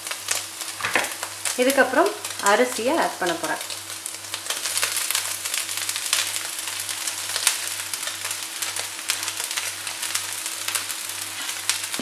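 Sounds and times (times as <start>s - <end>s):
crackles: 0.0s - 12.0s
food sizzling in a wok: 0.0s - 12.0s.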